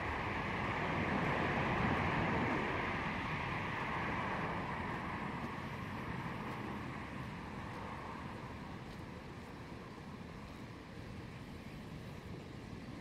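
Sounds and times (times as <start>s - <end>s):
outdoor rushing noise: 0.0s - 13.0s.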